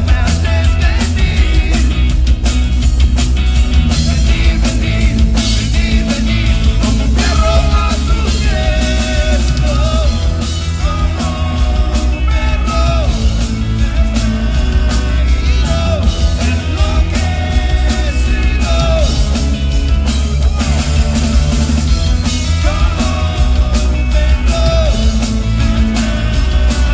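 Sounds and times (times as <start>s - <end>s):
live rock band playing: 0.0s - 26.9s.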